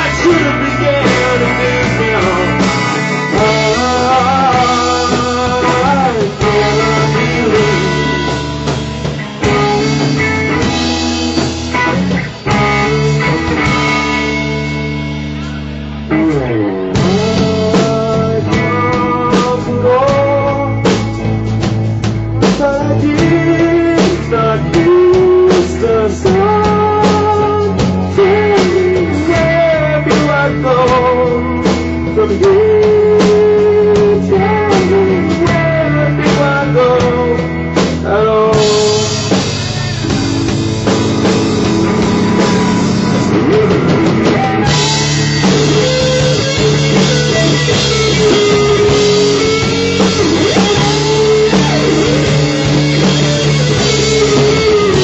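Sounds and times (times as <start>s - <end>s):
bass guitar: 0.0s - 55.0s
drum kit: 0.0s - 55.0s
electric guitar lead: 0.0s - 55.0s.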